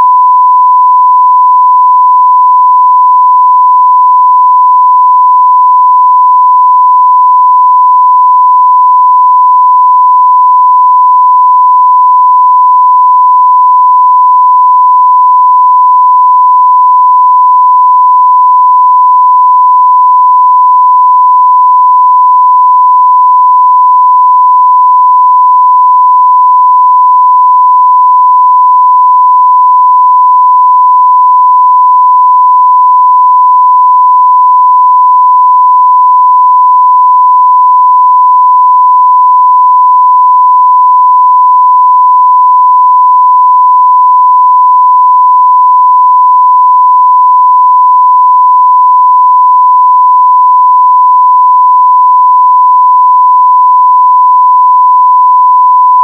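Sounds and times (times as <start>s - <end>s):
sine wave test tone: 0.0s - 56.0s.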